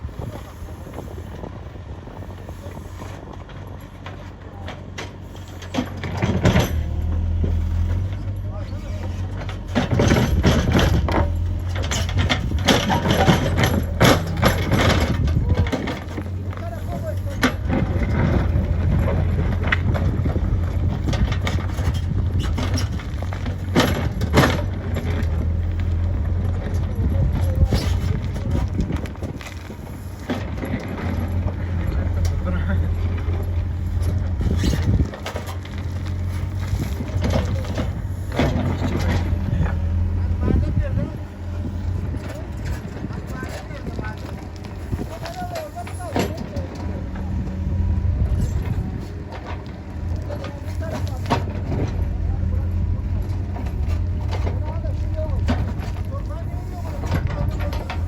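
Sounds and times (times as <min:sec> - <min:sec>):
diesel engine running: 0:00.0 - 0:58.0
machine clanks and knocks: 0:03.4 - 0:58.0.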